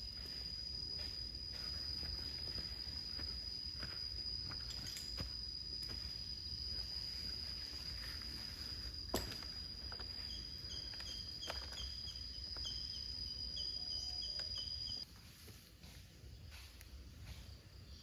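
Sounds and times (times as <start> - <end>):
insect chirping: 0.0 - 18.0
insects buzzing drone: 0.0 - 18.0.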